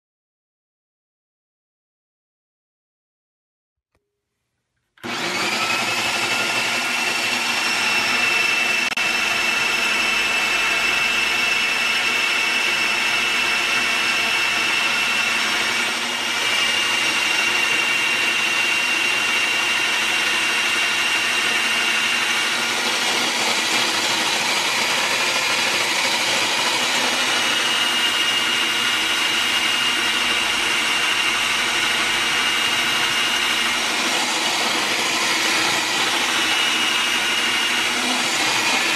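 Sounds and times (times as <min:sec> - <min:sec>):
electric juicer motor whine: 0:05.0 - 0:38.9.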